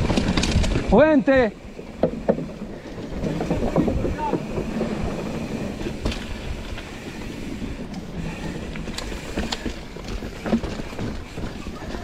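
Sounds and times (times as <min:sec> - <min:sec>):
bike parts rattling: 0:00.0 - 0:12.0
bike tyres rumbling on trail: 0:00.0 - 0:12.0.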